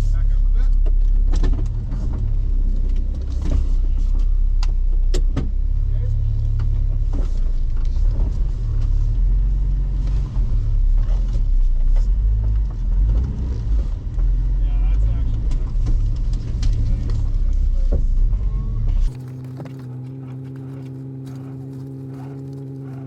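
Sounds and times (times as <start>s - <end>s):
engine low drone: 0.0s - 23.0s.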